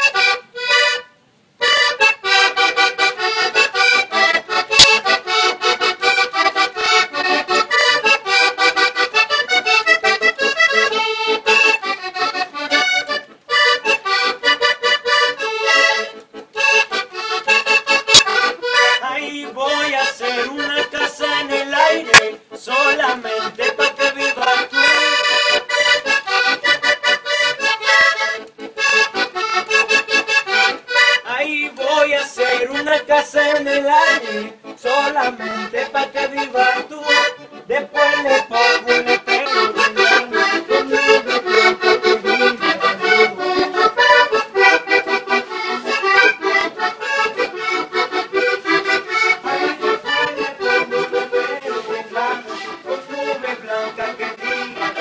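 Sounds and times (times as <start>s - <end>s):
button accordions playing lively tune: 0.0s - 55.0s.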